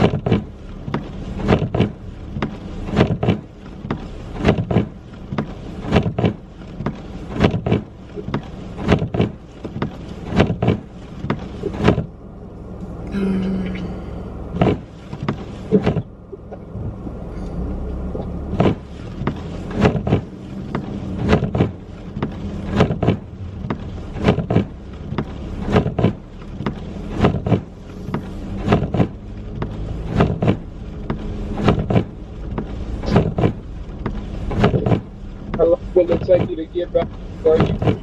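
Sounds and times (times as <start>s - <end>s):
windshield wipers knocking: 0.0s - 13.1s, 14.4s - 38.0s
car hum: 0.0s - 38.0s.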